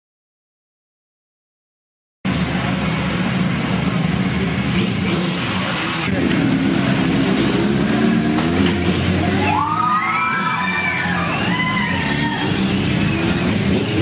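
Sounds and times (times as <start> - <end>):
motorbike engines idling and revving: 2.3 - 14.0.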